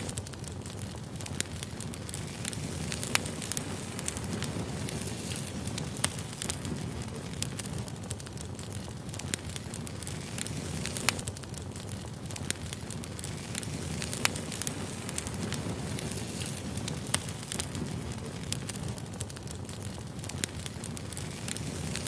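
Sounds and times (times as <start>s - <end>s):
campfire flame rushing: 0.0s - 22.0s
fire crackling and popping: 0.0s - 22.0s.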